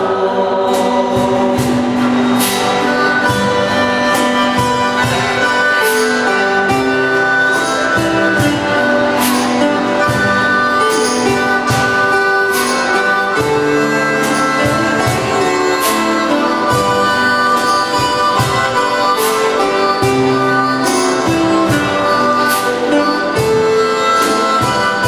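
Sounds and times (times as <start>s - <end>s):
acoustic guitars strumming: 0.0s - 25.0s
harmonica melody: 0.0s - 25.0s.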